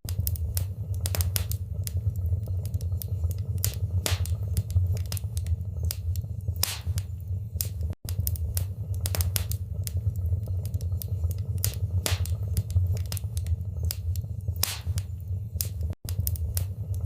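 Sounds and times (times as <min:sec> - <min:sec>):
wood fire crackling: 0:00.0 - 0:17.0
pops and snaps of burning wood: 0:00.1 - 0:17.0.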